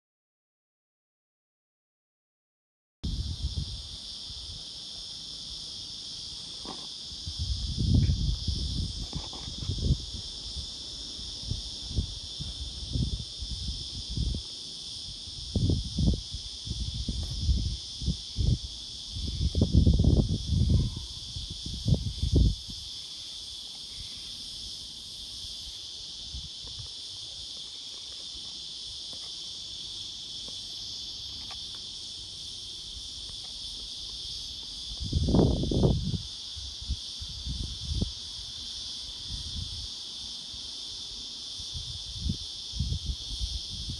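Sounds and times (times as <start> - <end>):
cicadas buzzing: 3.0 - 43.9.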